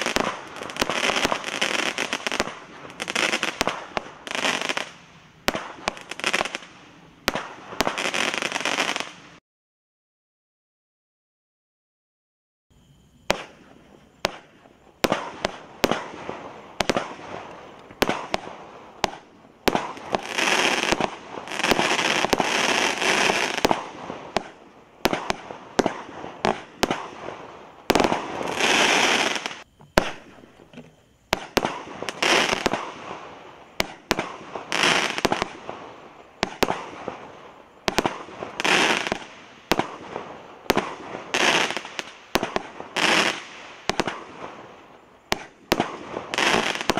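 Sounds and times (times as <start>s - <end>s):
firework bangs: 0.0s - 9.4s, 13.2s - 46.9s
firework crackling: 0.0s - 9.4s, 13.2s - 46.9s.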